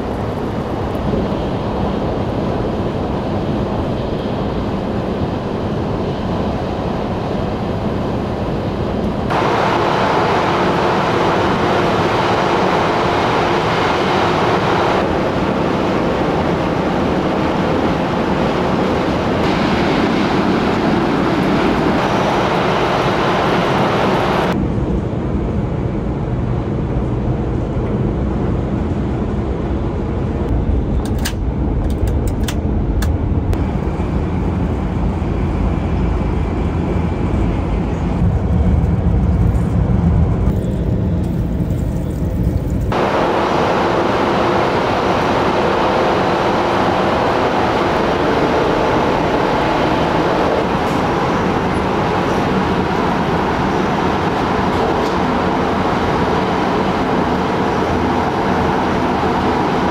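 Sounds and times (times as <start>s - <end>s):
train running noise inside car: 0.0s - 59.9s.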